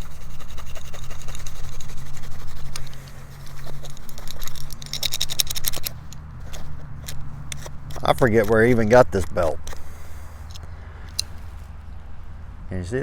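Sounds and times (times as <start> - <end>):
steel wool scrubbing metal: 0.0 - 10.6.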